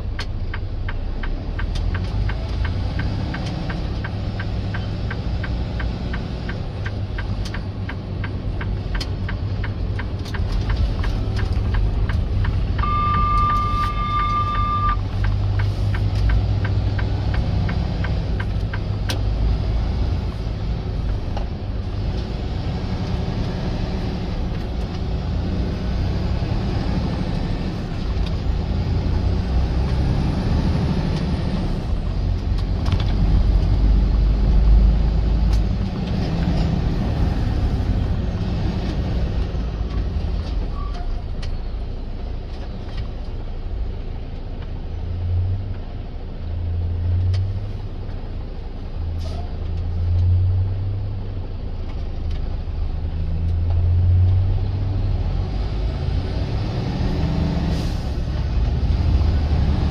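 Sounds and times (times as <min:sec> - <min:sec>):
diesel truck engine rumble: 0:00.0 - 0:59.9
road noise: 0:00.0 - 0:59.9.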